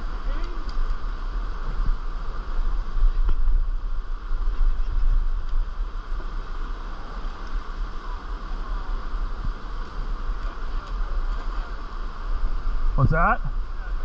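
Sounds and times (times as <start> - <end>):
water rushing through river: 0.0 - 14.0.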